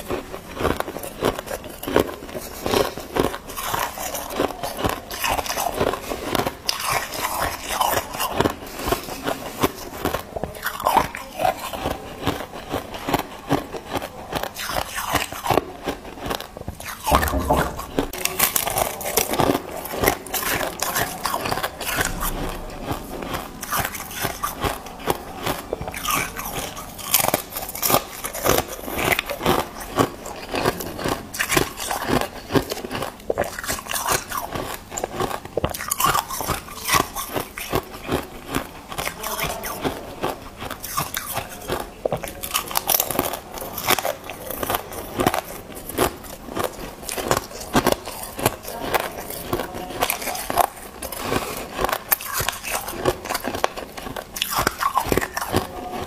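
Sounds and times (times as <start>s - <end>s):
ice being crunched and chewed: 0.0s - 56.0s.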